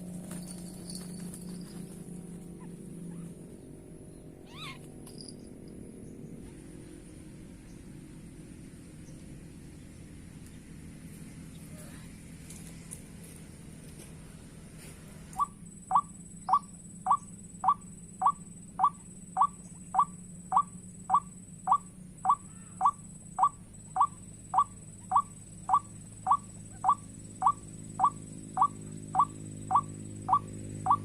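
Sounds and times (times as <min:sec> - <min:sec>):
faint high whine: 0:00.0 - 0:09.8, 0:10.4 - 0:31.0.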